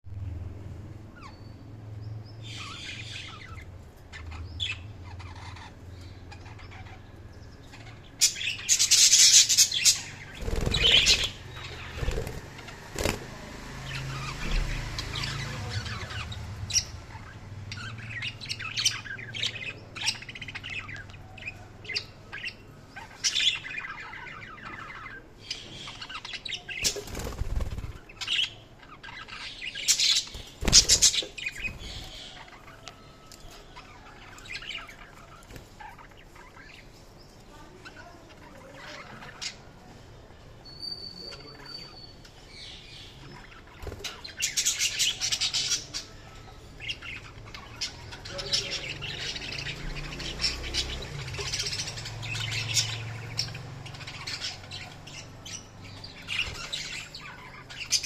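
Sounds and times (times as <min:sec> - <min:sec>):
budgerigars chirping: 0:02.2 - 0:37.3, 0:40.8 - 0:58.0.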